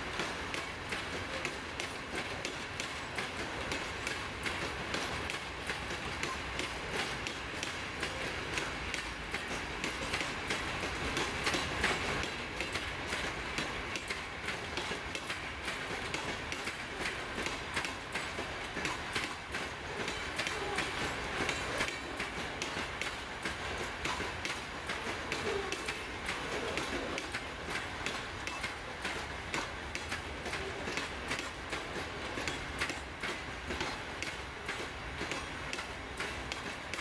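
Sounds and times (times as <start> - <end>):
train wheels rolling: 0.0 - 37.0
wheels clicking on rail joints: 0.0 - 37.0.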